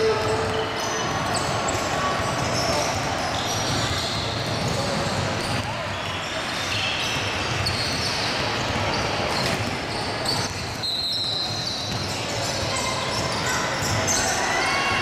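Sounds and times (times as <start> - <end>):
sneaker squeaks: 0.0 - 15.0.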